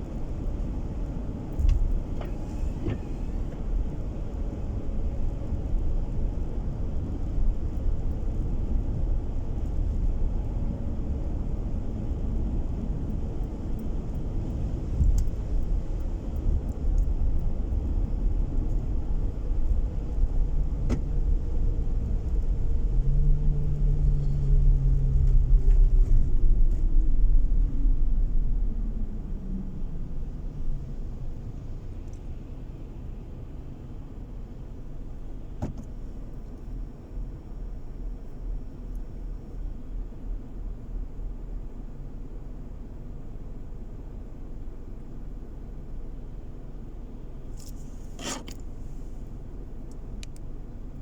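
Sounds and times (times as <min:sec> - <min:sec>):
car tyres and engine rumble: 0:00.0 - 0:51.0.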